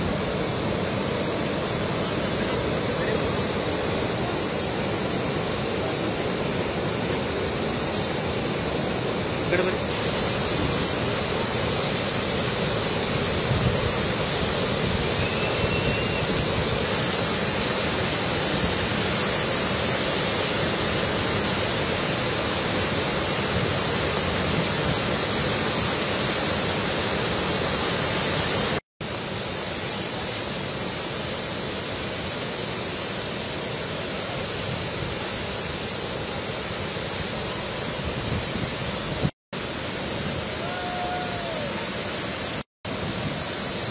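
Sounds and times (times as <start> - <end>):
water rushing over waterfall: 0.0 - 43.9.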